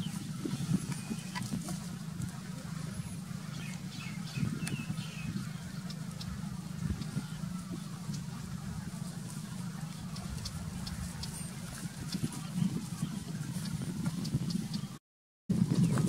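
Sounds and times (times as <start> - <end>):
small birds chirping: 0.0 - 15.0
steady low hum: 0.0 - 16.0.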